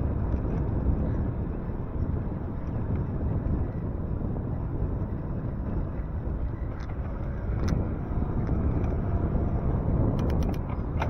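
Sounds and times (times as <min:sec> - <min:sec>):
wind and road noise rumble: 0:00.0 - 0:11.0.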